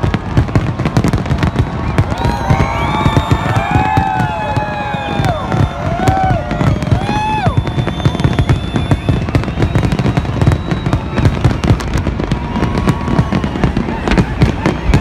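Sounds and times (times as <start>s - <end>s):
fireworks crackling pops: 0.0s - 15.0s
fireworks deep booms: 0.0s - 15.0s.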